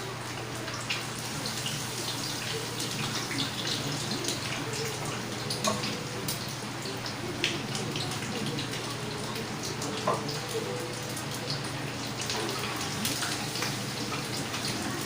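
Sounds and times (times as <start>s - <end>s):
oil sizzling with pops: 0.0s - 15.0s.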